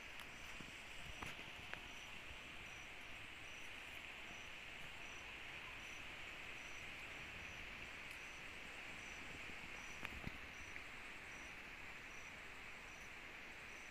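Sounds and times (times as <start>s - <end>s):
insect chirp: 0.0s - 13.9s
insect buzzing drone: 0.1s - 13.9s.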